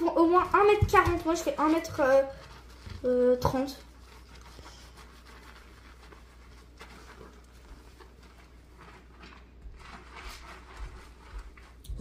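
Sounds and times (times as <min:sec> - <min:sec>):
soft handling rustles: 0:00.1 - 0:12.0.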